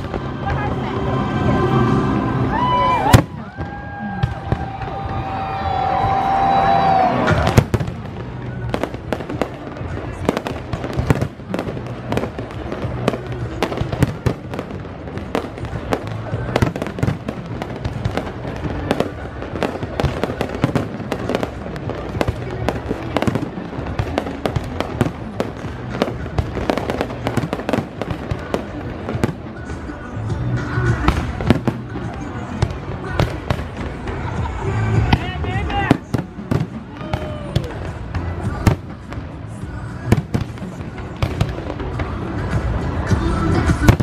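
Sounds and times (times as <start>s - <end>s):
fireworks bangs and crackles: 0.0s - 44.0s
music playing: 0.0s - 44.0s.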